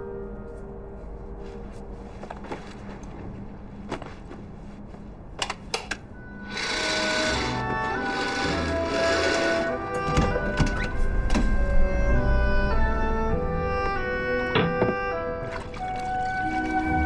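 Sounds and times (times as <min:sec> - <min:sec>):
music: 0:00.0 - 0:17.0.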